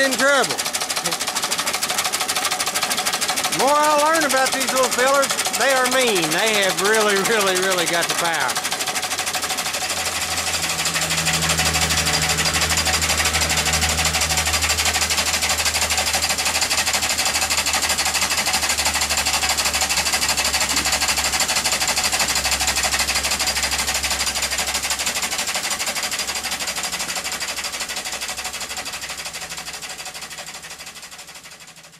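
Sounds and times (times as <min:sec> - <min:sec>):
steam engine beating: 0:00.0 - 0:31.9.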